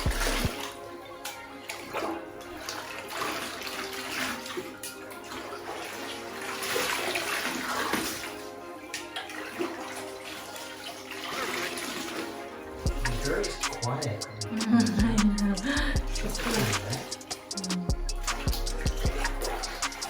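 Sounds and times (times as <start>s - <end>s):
background music with held tones: 0.0s - 20.0s
water splashing in a bathtub: 0.1s - 15.0s, 16.3s - 17.5s.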